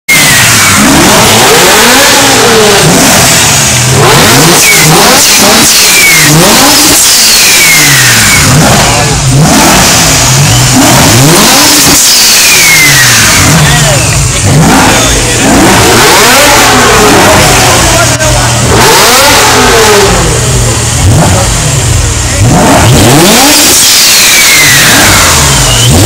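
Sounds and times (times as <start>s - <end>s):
car engine revving: 0.0s - 26.0s
second car revving in background: 0.1s - 26.0s.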